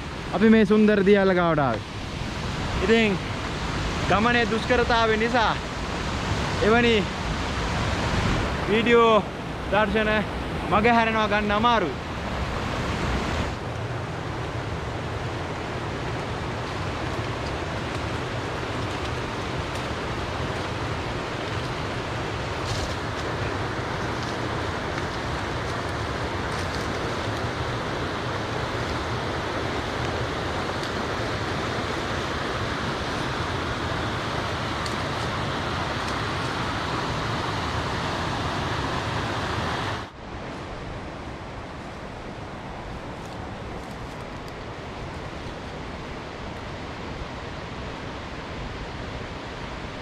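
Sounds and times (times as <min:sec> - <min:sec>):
waterfall rushing: 0:00.0 - 0:40.2.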